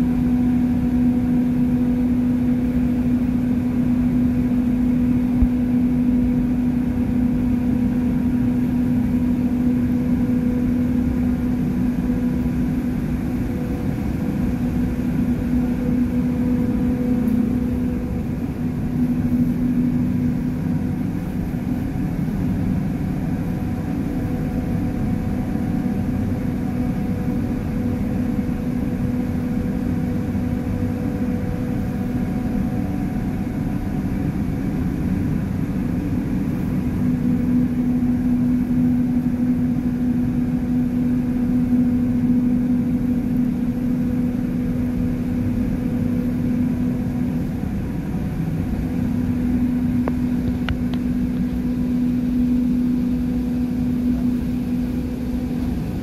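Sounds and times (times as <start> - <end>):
ship engine room machinery droning: 0.0 - 56.0.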